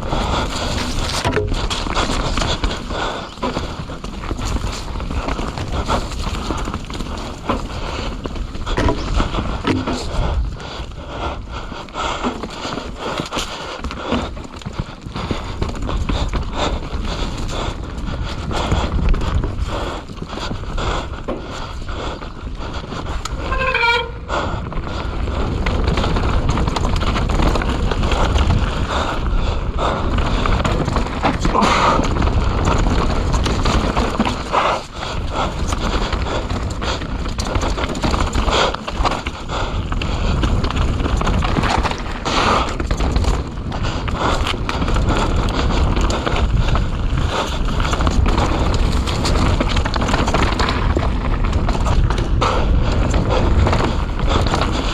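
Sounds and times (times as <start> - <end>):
bike clattering and rattling: 0.0 - 54.9
wind and tyre noise: 0.0 - 54.9.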